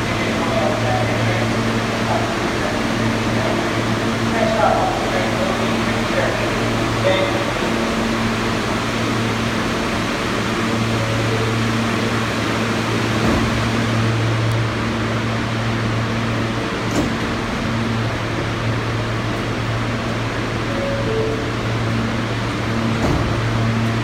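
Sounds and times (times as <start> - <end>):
subway train equipment humming: 0.0 - 24.0.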